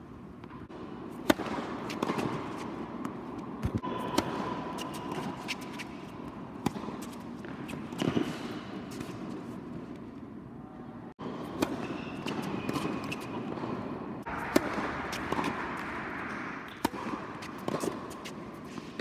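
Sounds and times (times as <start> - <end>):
rackets hitting tennis ball: 0.4 - 10.0, 11.2 - 19.0
tennis ball bouncing: 0.4 - 10.0, 11.3 - 19.0.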